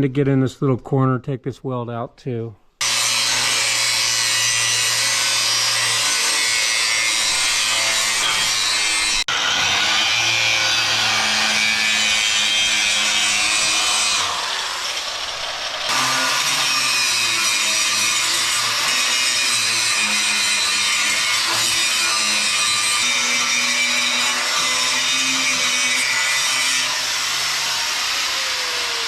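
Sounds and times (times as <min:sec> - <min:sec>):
power grinder grinding steel: 0:02.8 - 0:29.0.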